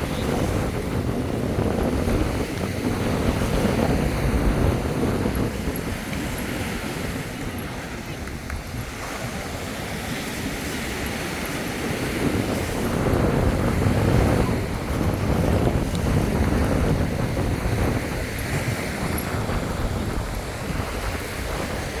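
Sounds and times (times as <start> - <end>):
sea waves breaking on beach: 0.0 - 22.0
wind buffeting microphone: 0.0 - 22.0.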